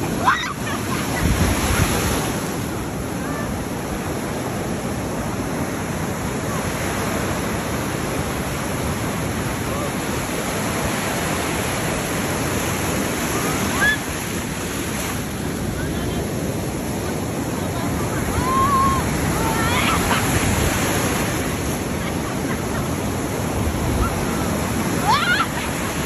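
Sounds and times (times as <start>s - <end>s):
ocean surf breaking: 0.0s - 26.0s.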